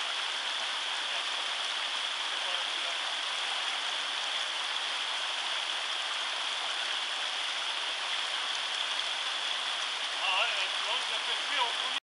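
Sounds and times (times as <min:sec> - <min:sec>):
rushing water of torrent: 0:00.0 - 0:12.0.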